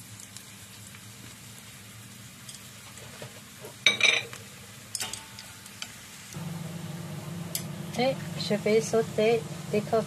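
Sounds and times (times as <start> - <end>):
shallots sizzling in oil: 0.0 - 10.0.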